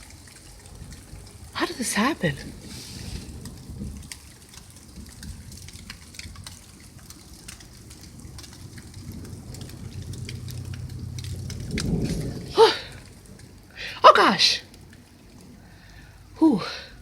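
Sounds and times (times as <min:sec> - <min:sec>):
low rumble of thunder: 0:00.0 - 0:14.0, 0:14.6 - 0:17.0
rain falling: 0:00.0 - 0:17.0
raindrops ticking: 0:00.0 - 0:17.0.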